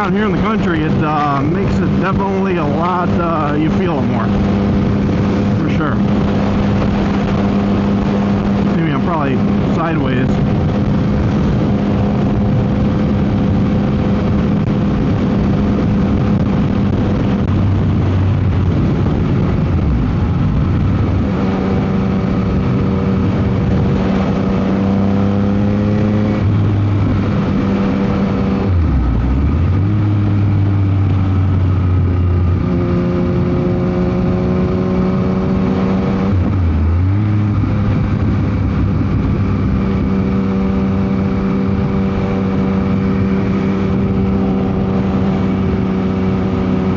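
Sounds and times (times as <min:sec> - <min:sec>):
motorcycle engine running: 0:00.0 - 0:46.9
wind noise on microphone: 0:00.0 - 0:46.9.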